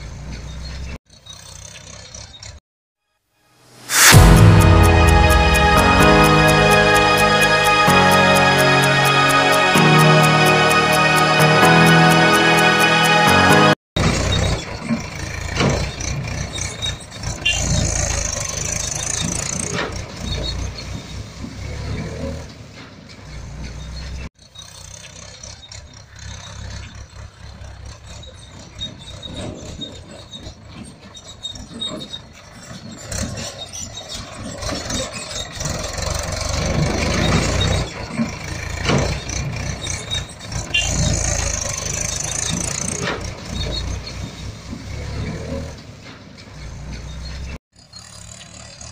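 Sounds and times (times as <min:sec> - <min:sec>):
tractor engine rumbling: 0:07.6 - 0:48.9.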